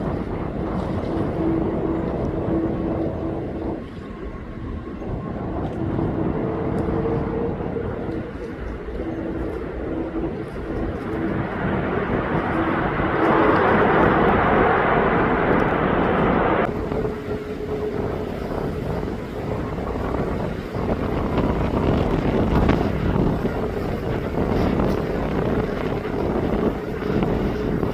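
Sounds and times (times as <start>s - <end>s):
faint steady engine whine: 0.0s - 27.9s
jet engines rumbling: 0.0s - 27.9s.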